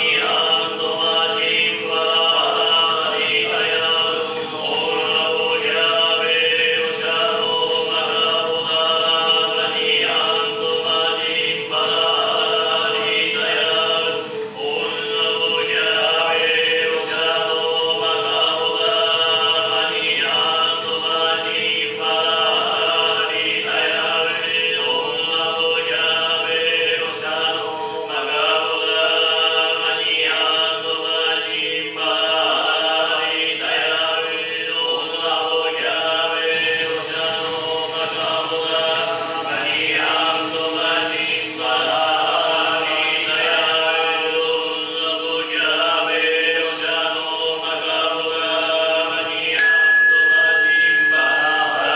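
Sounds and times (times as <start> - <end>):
steady held drone: 0.0 - 51.9
voices chanting: 0.0 - 51.9.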